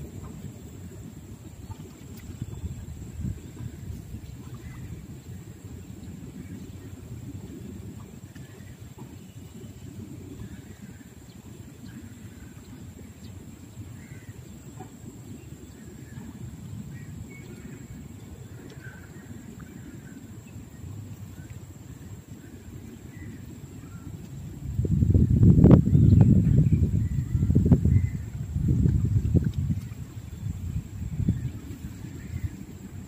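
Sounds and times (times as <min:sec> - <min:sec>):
low steady rumble: 0:00.0 - 0:33.0.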